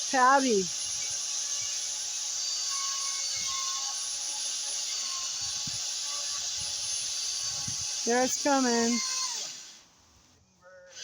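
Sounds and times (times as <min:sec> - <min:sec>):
pole saw cutting branch: 0:00.0 - 0:09.9.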